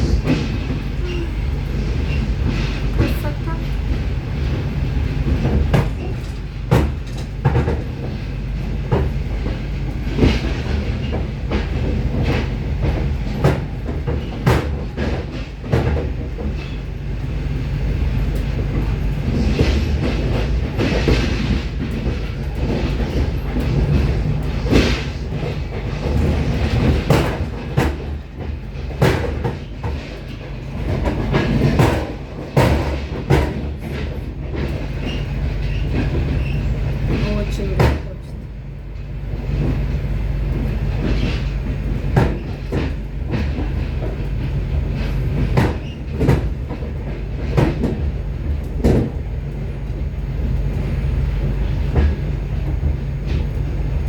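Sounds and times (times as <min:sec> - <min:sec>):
train low rumble: 0:00.0 - 0:54.0
train wheels knocking and clacking: 0:00.0 - 0:54.0.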